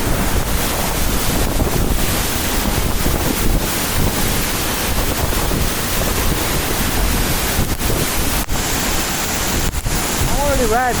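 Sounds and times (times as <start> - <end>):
waterfall rushing: 0.0 - 11.0
wind buffeting microphone: 0.0 - 11.0.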